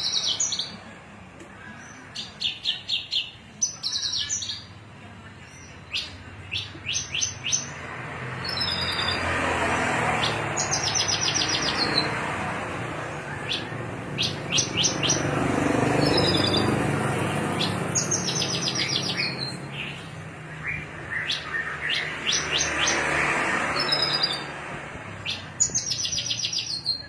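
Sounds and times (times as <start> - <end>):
bird singing chirps and trills: 0.0 - 0.9, 1.6 - 27.0.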